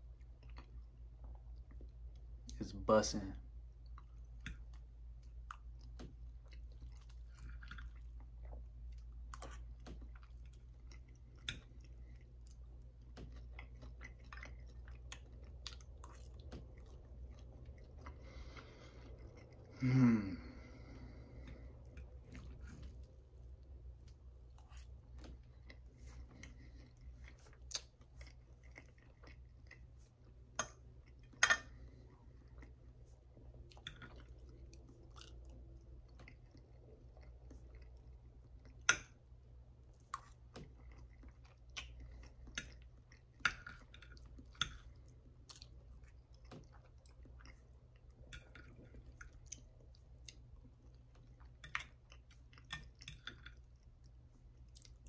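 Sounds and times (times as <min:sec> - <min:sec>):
chewing soft food: 0:00.0 - 0:02.7, 0:03.3 - 0:55.0.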